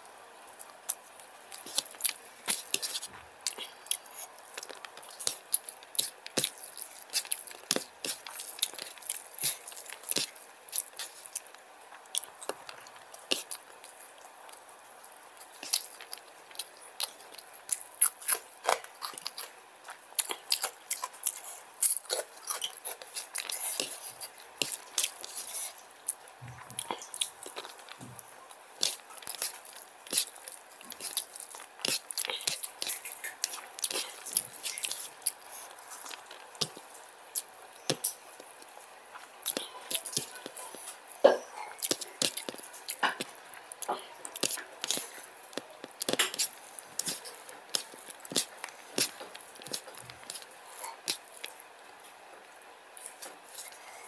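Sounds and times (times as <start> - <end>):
person chewing food: 0.4 - 54.0
fingers squishing food: 0.5 - 52.0.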